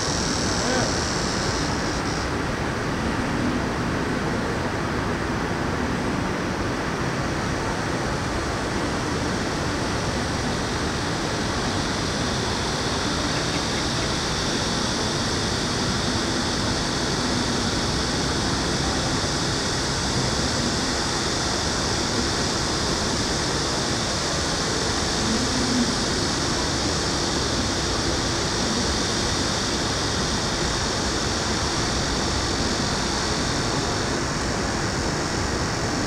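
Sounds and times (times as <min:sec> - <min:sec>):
high hiss: 0:00.0 - 0:03.9, 0:08.1 - 0:36.0.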